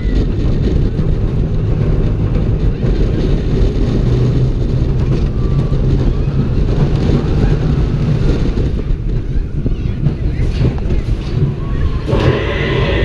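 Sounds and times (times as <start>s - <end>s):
roller coaster wheels rumbling: 0.0s - 13.0s
wind buffeting microphone: 0.0s - 13.0s.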